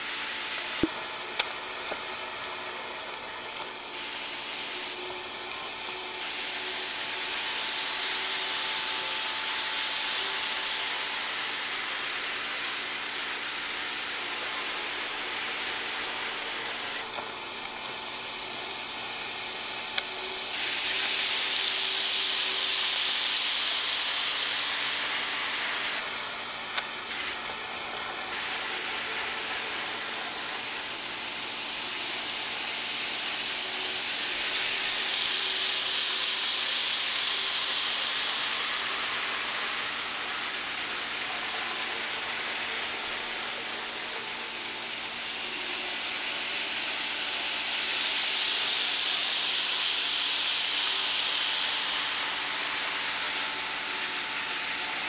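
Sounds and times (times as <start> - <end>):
model train running: 3.9 - 55.0.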